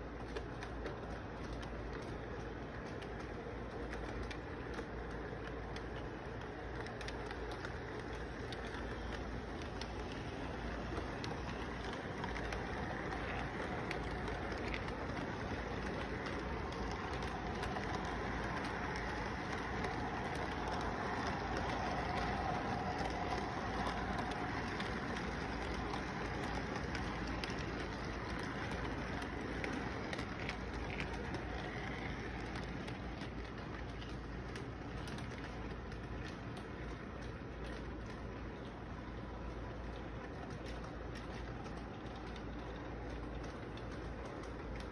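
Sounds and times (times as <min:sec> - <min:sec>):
model train rolling rattle: 0:00.0 - 0:44.9.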